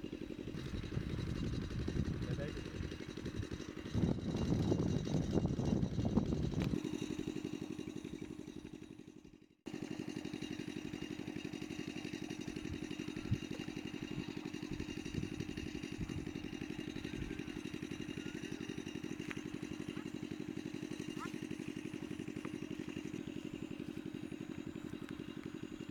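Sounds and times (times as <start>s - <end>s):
engine running with rapid throb: 0.0s - 25.9s.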